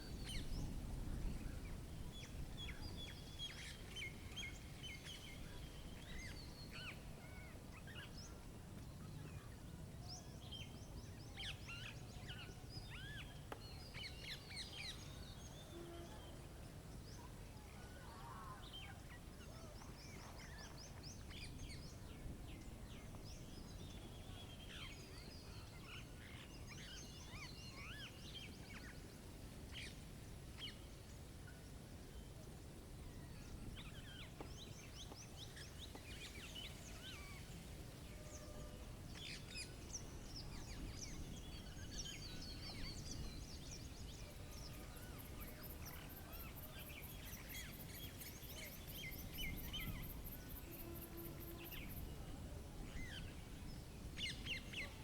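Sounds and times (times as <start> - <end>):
low rush of wind: 0.0 - 55.0
songbirds chirping: 0.0 - 55.0.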